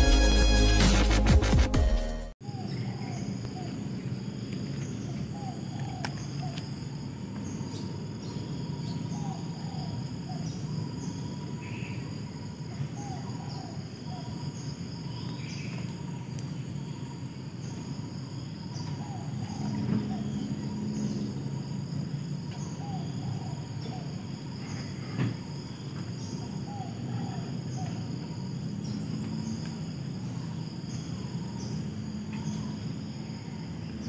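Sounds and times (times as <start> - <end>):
insect rapid pulsing buzz: 2.4 - 34.0
insects trilling: 2.4 - 34.0.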